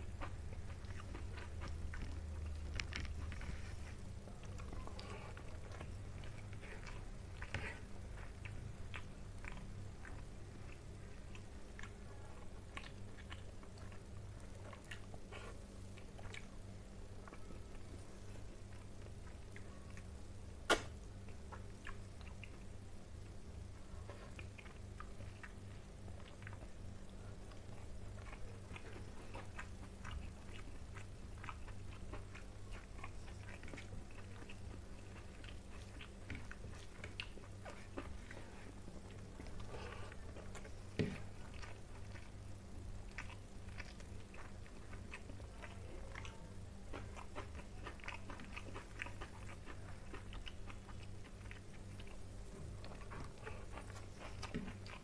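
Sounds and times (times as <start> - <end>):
person chewing food: 0.0 - 55.0
steady low hum: 0.0 - 55.0.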